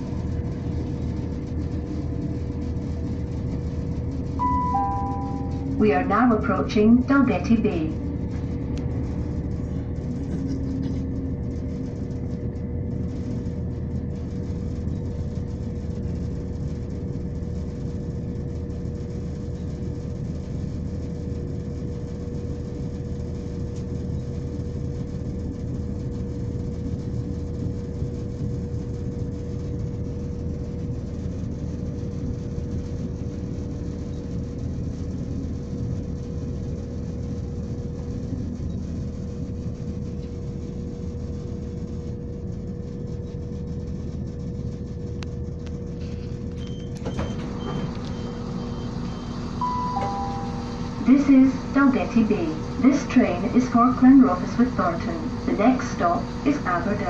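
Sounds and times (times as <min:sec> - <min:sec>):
mid-pitched hum: 0:00.0 - 0:57.0
train engine low rumble: 0:00.0 - 0:57.0.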